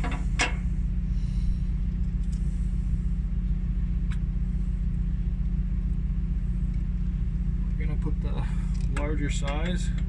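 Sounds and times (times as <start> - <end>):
low machine drone: 0.0 - 10.0.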